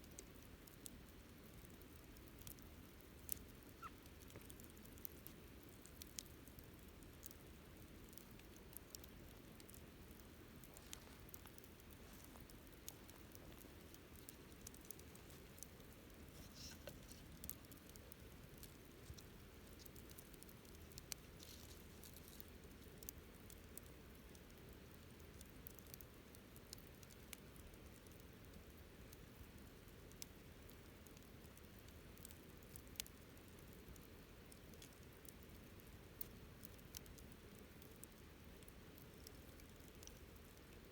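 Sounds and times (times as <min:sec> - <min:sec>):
campfire crackling: 0:00.0 - 0:40.9
faint low background noise: 0:00.0 - 0:40.9.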